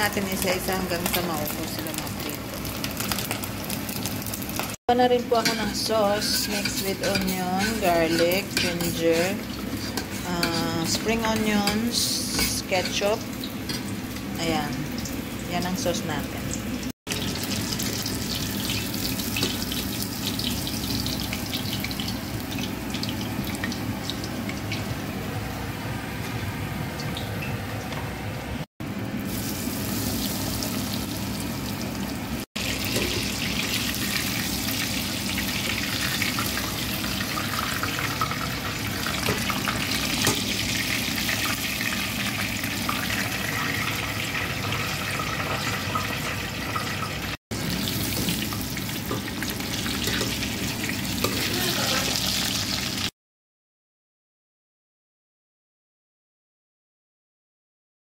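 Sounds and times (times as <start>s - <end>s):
chicken deep-frying in oil: 0.0s - 53.1s.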